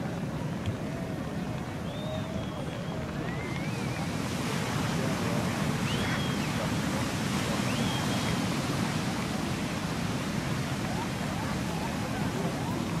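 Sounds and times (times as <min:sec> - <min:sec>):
ocean surf washing onto beach: 0:00.0 - 0:13.0.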